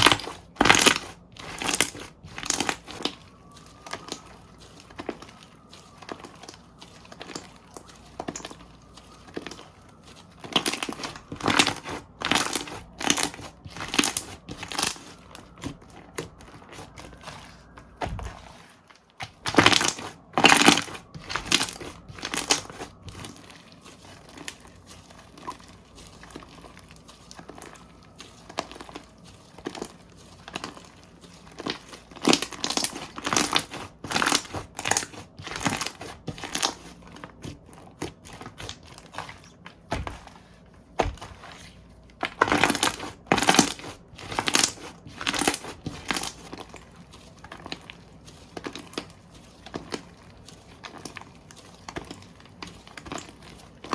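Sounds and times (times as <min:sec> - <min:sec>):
slime squished by hand: 0:00.0 - 0:53.9.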